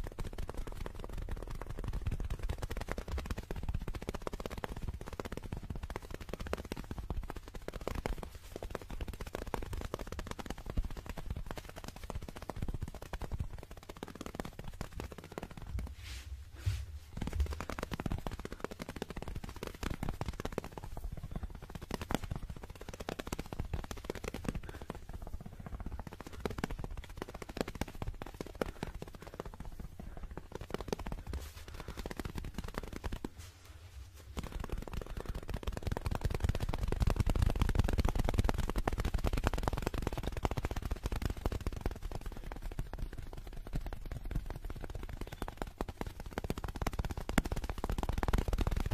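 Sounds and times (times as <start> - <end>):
fast fingernail tapping: 0.0 - 15.9, 17.1 - 33.4, 34.3 - 48.9.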